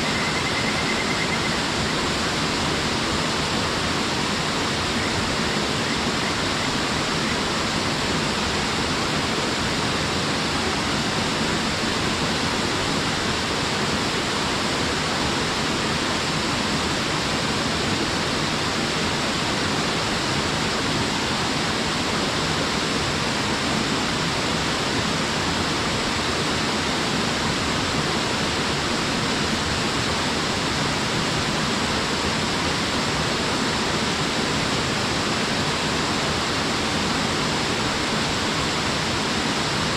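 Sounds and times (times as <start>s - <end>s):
small waterfall pouring into pool: 0.3s - 39.9s.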